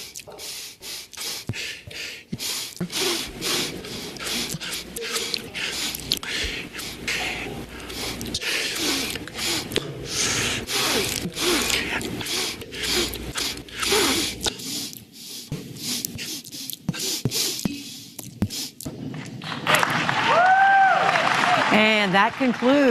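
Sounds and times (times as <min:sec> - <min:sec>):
man sniffing: 0:00.0 - 0:18.9.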